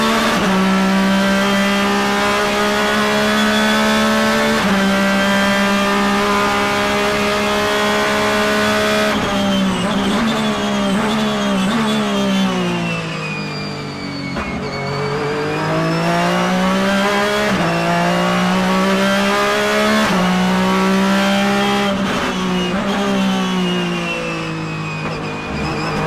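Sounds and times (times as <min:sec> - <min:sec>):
engine downshifting with blips: 0:00.0 - 0:26.0
race car engine at high revs: 0:00.0 - 0:26.0.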